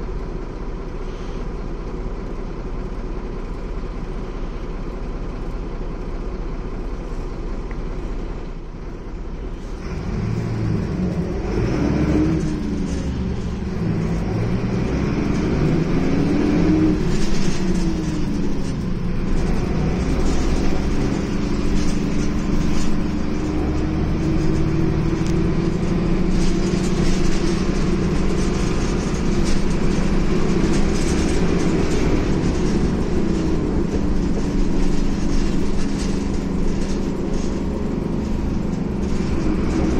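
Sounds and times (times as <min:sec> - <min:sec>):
bus diesel engine accelerating: 0:00.0 - 0:39.9
road rumble: 0:00.0 - 0:39.9.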